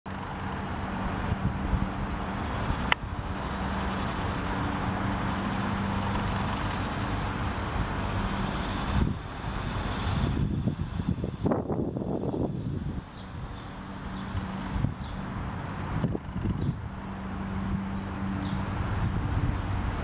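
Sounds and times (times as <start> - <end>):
road traffic engine hum: 0.1 - 20.0.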